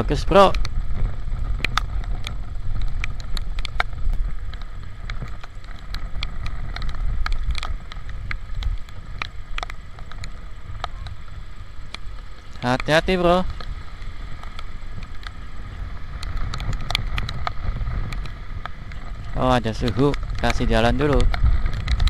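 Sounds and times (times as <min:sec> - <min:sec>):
wind rumble on microphone: 0:00.0 - 0:22.0
raindrops ticking on camera: 0:00.1 - 0:22.0.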